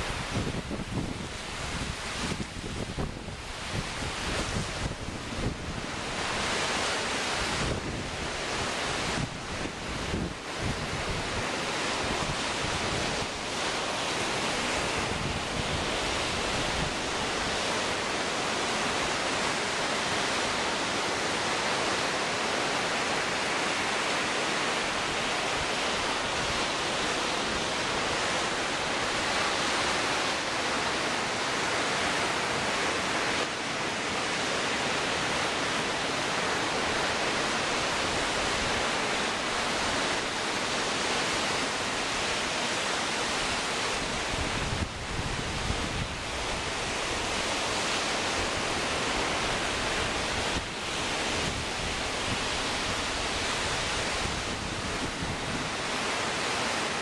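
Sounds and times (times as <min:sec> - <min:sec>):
waves breaking on shore: 0:00.0 - 0:57.0
wind gusting across microphone: 0:00.0 - 0:57.0.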